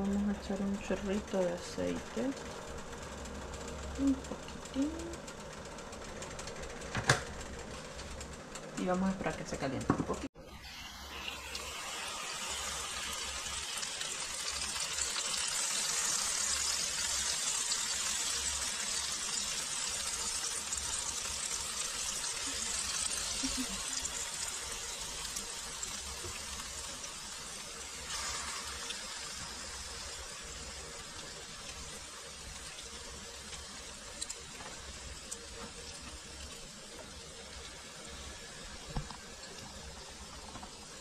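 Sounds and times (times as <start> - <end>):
food sizzling in hot oil: 0.0 - 5.2, 10.3 - 41.0.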